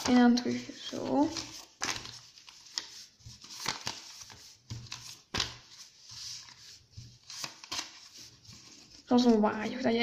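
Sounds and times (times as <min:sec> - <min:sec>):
paper crinkles: 0:00.0 - 0:10.0
paper rustling: 0:00.0 - 0:10.0.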